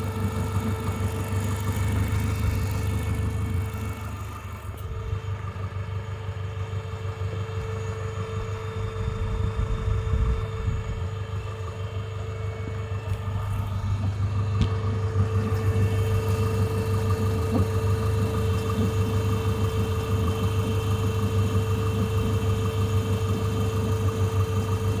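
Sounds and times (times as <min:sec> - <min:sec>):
even engine tone: 0:00.0 - 0:21.2
car engine running: 0:00.0 - 0:25.0.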